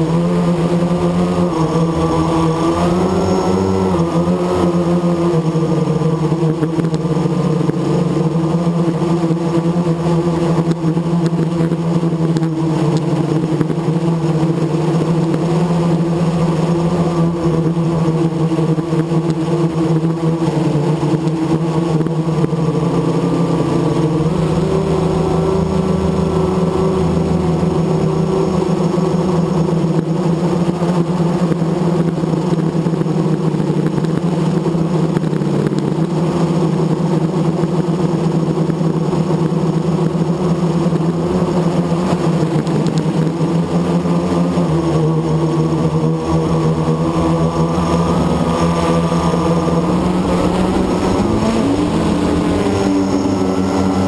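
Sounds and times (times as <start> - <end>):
quadcopter propellers whirring: 0.0 - 54.0.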